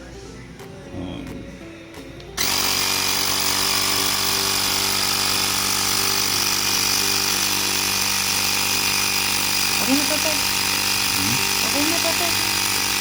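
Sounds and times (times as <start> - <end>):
electric air compressor running: 2.4 - 13.0.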